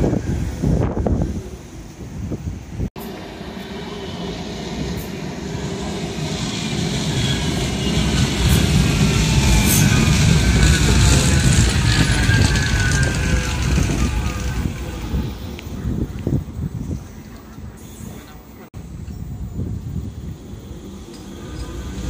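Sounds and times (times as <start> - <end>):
tram wheels rumbling on rail: 0.0 - 22.0.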